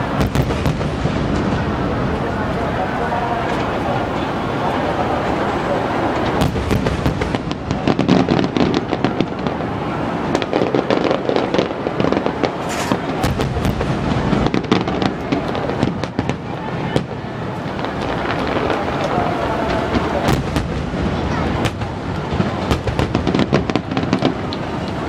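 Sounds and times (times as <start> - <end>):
fireworks banging and crackling: 0.0 - 25.0.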